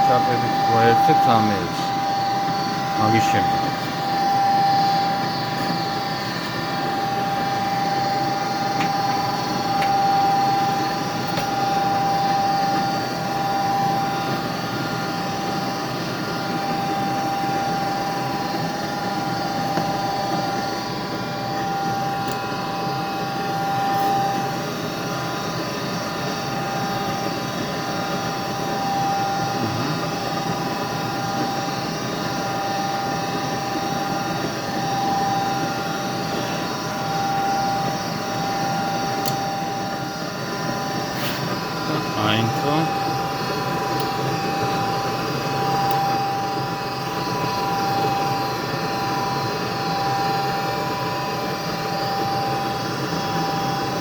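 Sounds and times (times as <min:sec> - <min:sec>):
furnace fan motor humming: 0:00.0 - 0:54.0.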